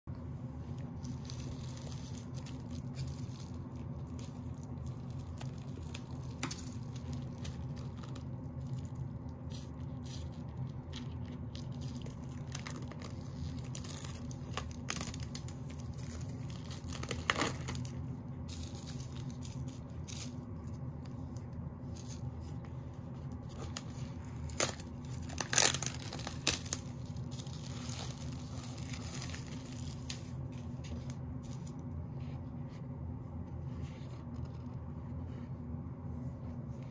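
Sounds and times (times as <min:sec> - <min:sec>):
steady low hum: 0:00.0 - 0:36.9
plastic shrink wrap crinkling: 0:00.8 - 0:31.9.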